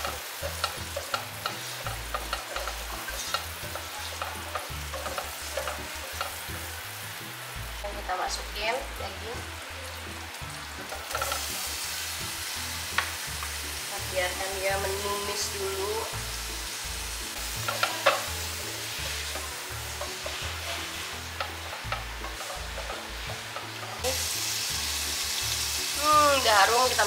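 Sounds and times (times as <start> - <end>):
beef sizzling in oil: 0.0 - 27.0.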